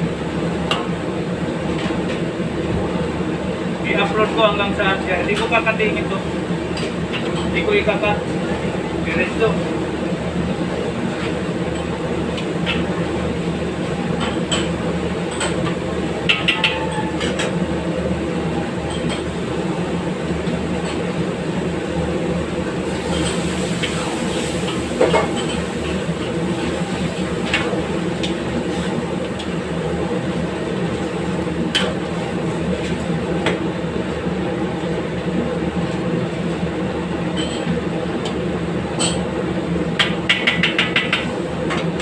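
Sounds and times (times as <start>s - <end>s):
gas burner rumble: 0.0s - 42.0s.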